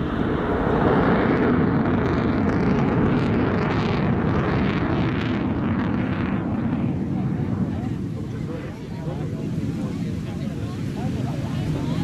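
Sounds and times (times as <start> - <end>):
jet engines flying overhead: 0.0 - 12.0.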